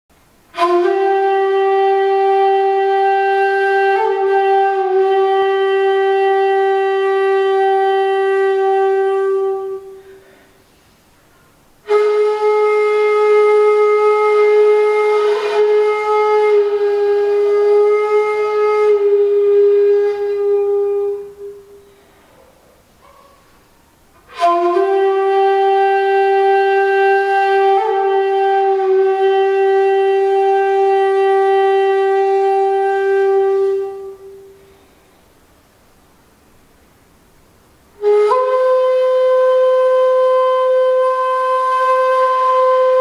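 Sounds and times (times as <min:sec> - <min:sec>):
bamboo flute long held notes: 0:00.2 - 0:10.6, 0:11.4 - 0:23.3, 0:24.2 - 0:35.5, 0:37.1 - 0:43.0.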